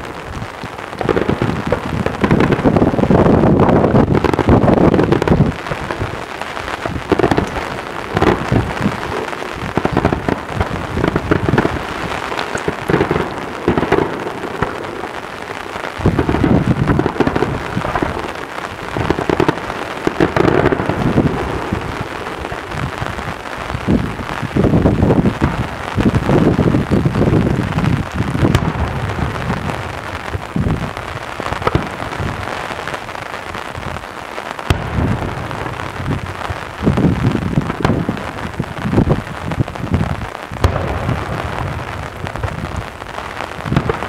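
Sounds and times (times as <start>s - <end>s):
fireworks bursting: 0.0s - 44.0s.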